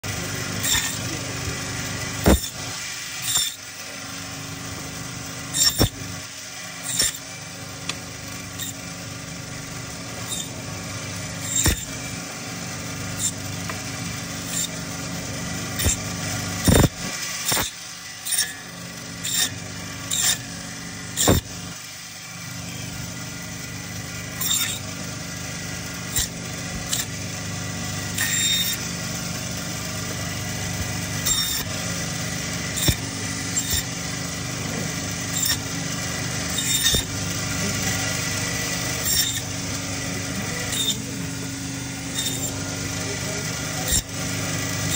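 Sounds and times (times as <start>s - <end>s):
meat bandsaw running: 0.0s - 44.9s.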